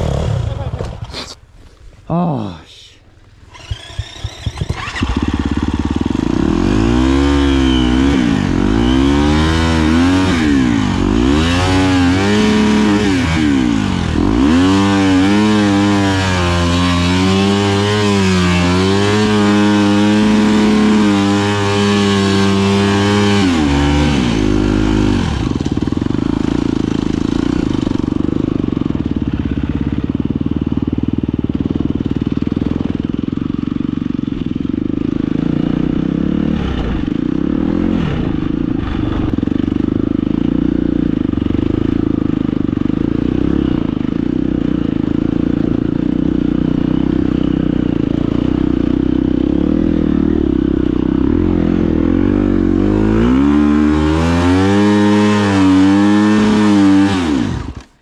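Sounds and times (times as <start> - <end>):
motorcycle engine revving: 0.0 - 1.4, 3.4 - 58.0.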